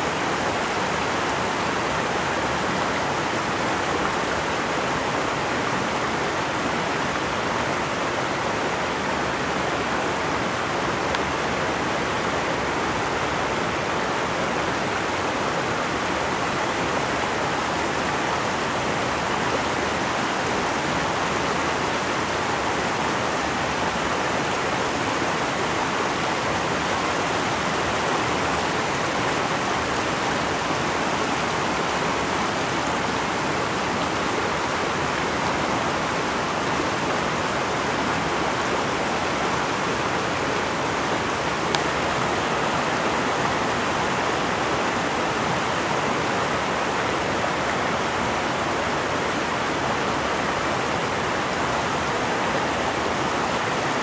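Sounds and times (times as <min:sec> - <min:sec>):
fast-flowing river rushing: 0:00.0 - 0:54.0.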